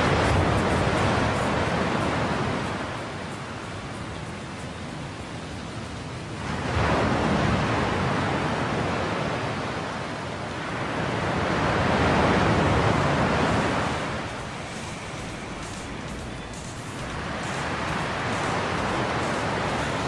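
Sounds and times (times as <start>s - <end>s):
rushing noise: 0.0s - 8.2s, 11.2s - 20.0s.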